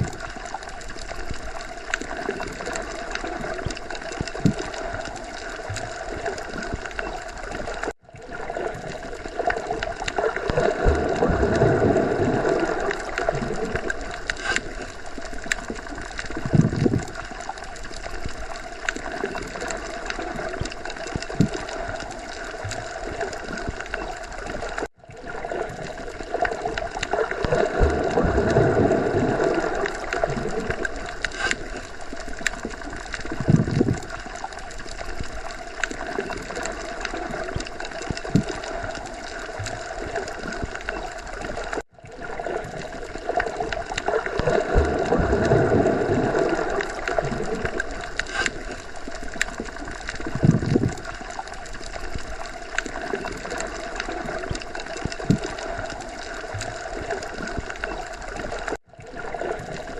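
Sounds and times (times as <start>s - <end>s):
muffled underwater water wash: 0.0s - 59.9s.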